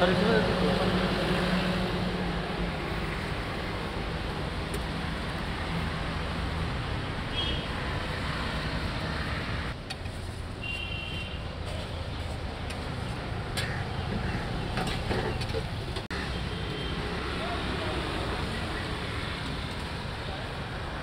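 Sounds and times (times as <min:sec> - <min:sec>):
roadside traffic hum: 0:00.0 - 0:21.0.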